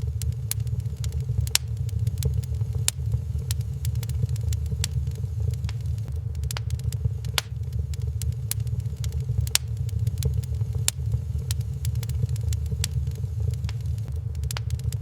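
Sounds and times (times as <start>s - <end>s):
fire burning low rumble: 0.0s - 15.0s
fire crackling and popping: 0.0s - 15.0s.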